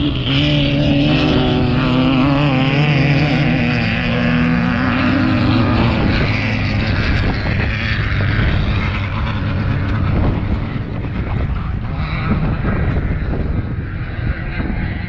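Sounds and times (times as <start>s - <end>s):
engine running loud: 0.0s - 15.0s.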